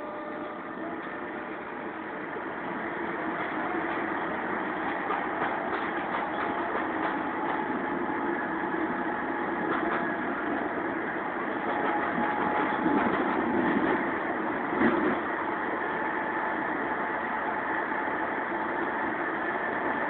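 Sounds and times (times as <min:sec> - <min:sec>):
tram running with whining hum: 0:00.0 - 0:20.0.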